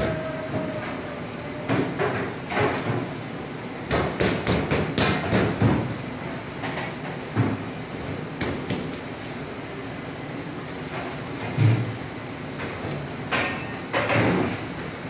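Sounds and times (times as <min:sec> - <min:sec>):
kitchen background noise: 0:00.0 - 0:15.0.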